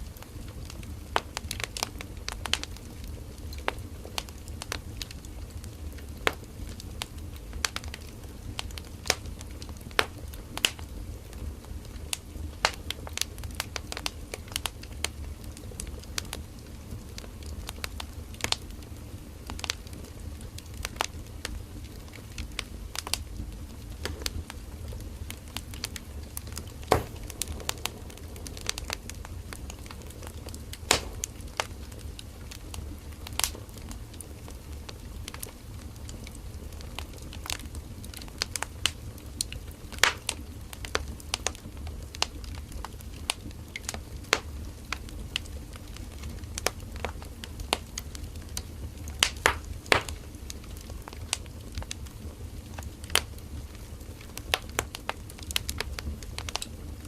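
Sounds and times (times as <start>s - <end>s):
firewood crackling and popping: 0.0s - 57.0s
low rumble of fire: 0.0s - 57.0s.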